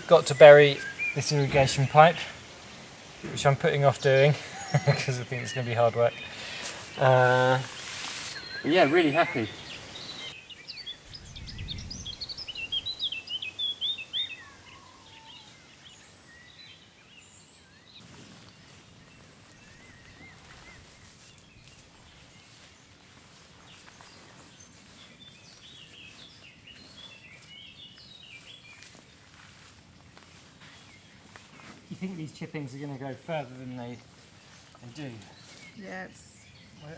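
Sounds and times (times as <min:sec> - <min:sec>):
outdoor background noise: 0:00.0 - 0:36.9
songbird chirping: 0:00.0 - 0:36.9.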